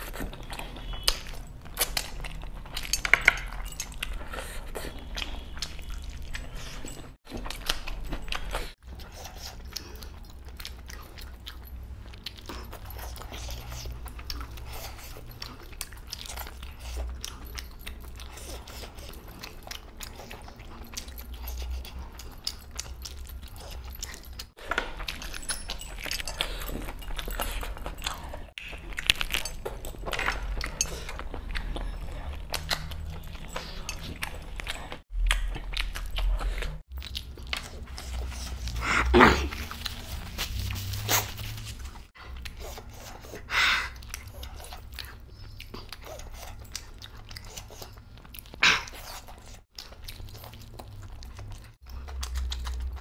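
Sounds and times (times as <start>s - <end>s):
man chewing and smacking: 0.0s - 53.0s.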